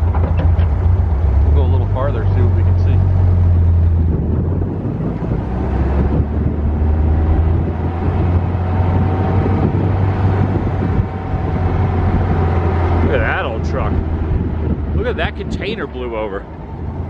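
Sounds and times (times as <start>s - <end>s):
dune buggy engine running: 0.0s - 17.0s
wind rushing over microphone: 0.0s - 17.0s.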